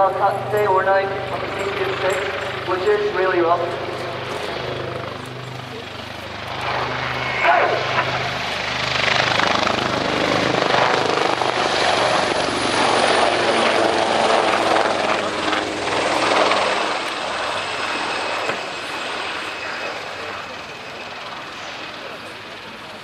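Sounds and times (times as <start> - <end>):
helicopter rotor and turbine noise: 0.0 - 23.0.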